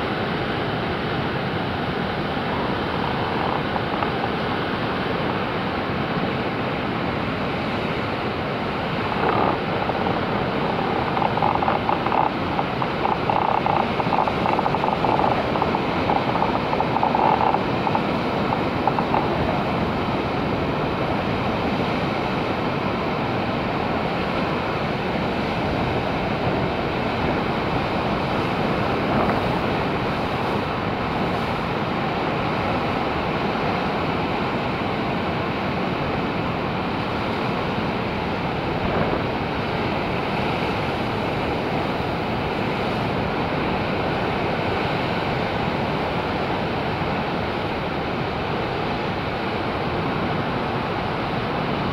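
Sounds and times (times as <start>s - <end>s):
surf breaking over rocks: 0.0s - 51.9s
wind buffeting microphone: 7.3s - 51.9s.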